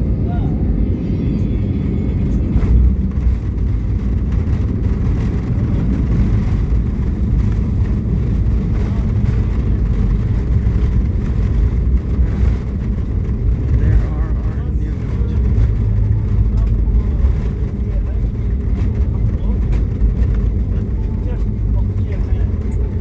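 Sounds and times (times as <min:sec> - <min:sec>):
airliner cabin engine rumble: 0:00.0 - 0:23.0
wheel rumble: 0:01.6 - 0:23.0.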